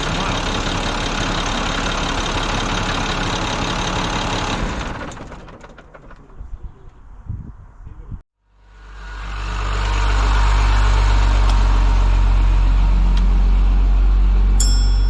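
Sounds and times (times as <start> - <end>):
bus engine running: 0.0 - 6.5, 8.6 - 15.0.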